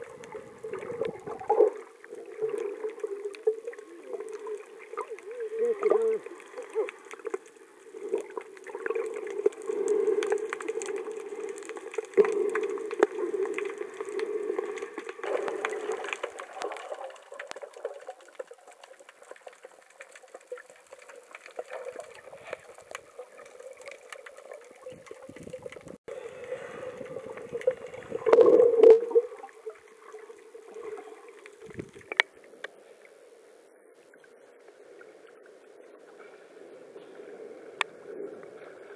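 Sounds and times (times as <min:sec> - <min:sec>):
muffled underwater water noise: 0:00.0 - 0:38.9.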